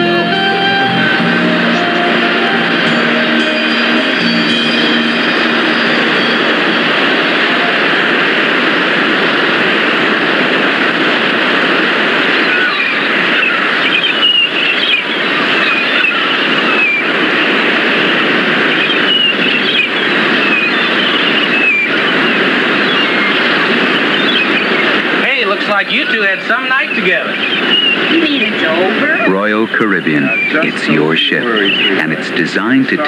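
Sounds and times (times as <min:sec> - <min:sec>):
loud rushing noise: 0:00.0 - 0:33.0.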